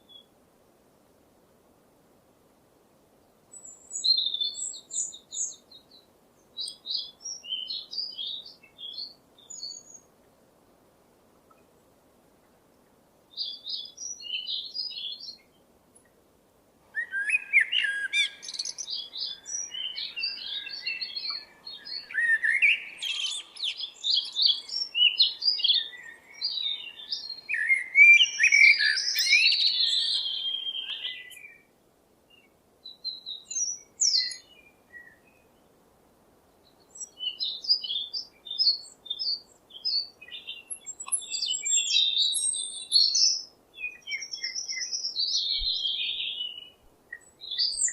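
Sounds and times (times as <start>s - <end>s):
small birds chirping: 3.2s - 10.3s, 11.4s - 16.2s, 16.9s - 35.8s, 36.4s - 47.9s.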